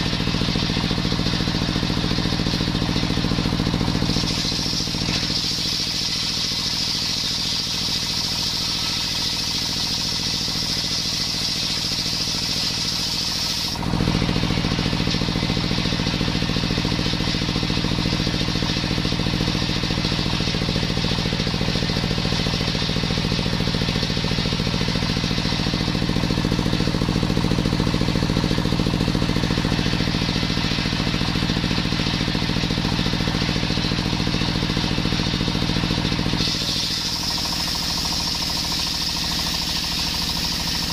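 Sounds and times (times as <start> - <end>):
engine running: 0.0 - 40.9
saw blade whine: 0.0 - 40.9.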